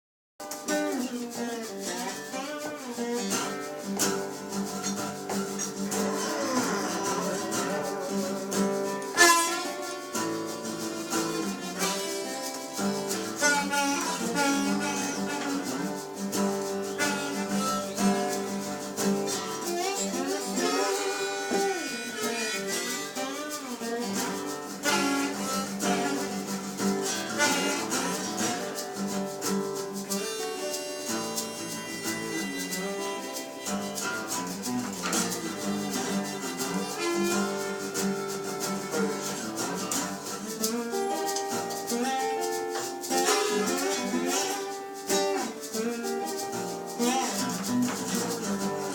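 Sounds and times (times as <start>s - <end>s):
guitar: 0.4s - 48.9s
live band instrumental music: 0.4s - 48.9s.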